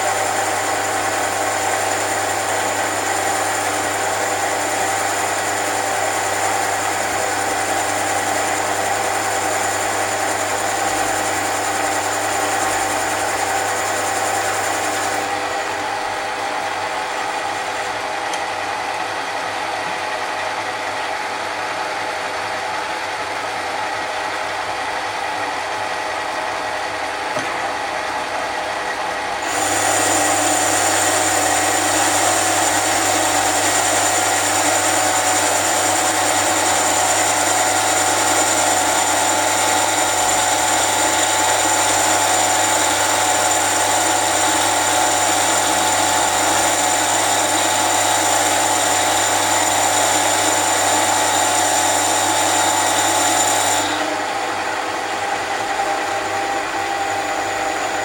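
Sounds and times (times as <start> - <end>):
lathe motor whine: 0.0 - 58.0.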